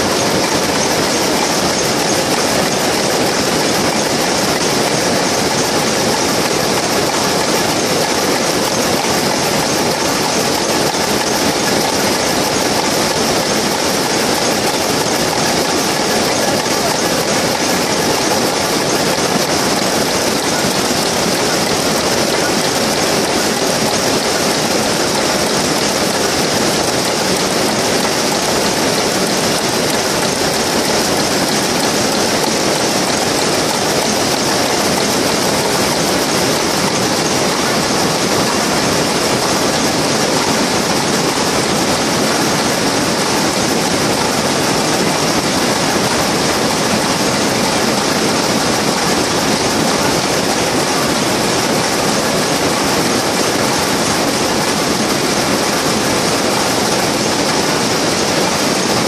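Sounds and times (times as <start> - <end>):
weaving looms clattering: 0.0 - 59.0.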